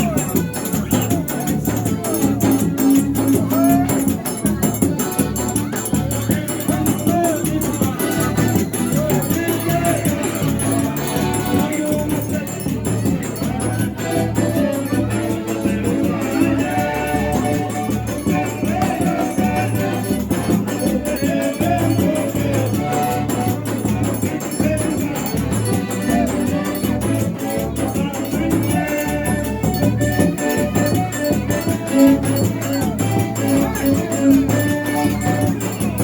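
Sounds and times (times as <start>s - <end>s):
person singing: 0.0s - 36.0s
shaker rhythm: 0.0s - 36.0s.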